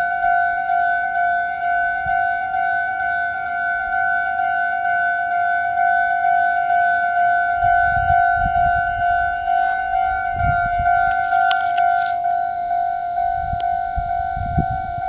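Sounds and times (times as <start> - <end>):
level-crossing alarm bell: 0.0 - 15.0.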